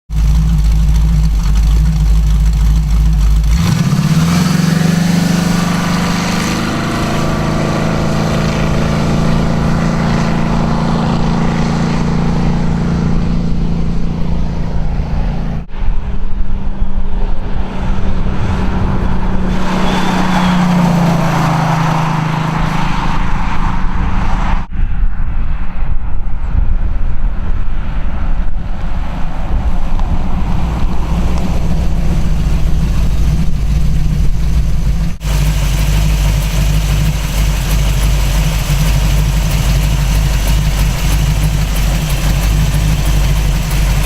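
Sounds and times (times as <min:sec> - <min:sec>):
car engine revving: 0:00.0 - 0:15.7, 0:16.6 - 0:24.7, 0:28.8 - 0:44.0.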